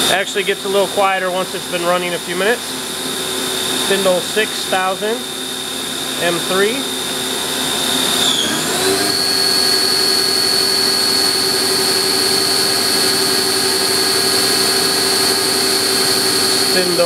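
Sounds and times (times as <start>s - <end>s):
machine spindle high-pitched whine: 0.0s - 17.0s.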